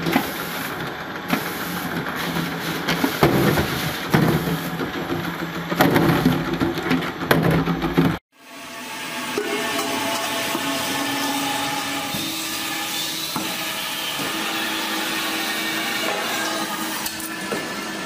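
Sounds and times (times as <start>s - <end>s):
roller machine whirring: 0.0s - 18.0s.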